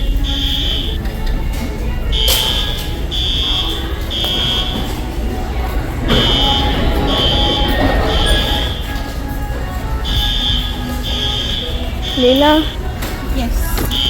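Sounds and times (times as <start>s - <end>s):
fire alarm horn blasts: 0.0s - 1.3s, 2.0s - 13.0s
murmur of voices: 0.0s - 14.0s.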